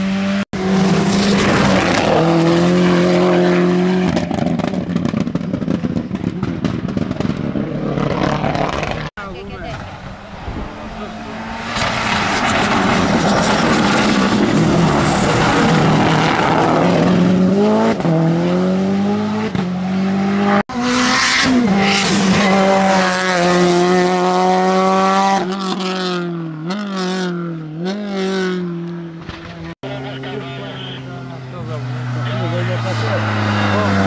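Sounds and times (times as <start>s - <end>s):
racing car engine at full throttle: 0.0s - 34.0s.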